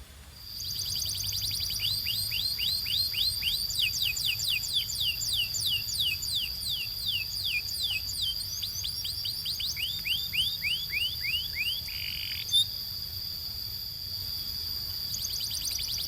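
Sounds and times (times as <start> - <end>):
canary singing: 0.6 - 12.7, 15.1 - 16.0.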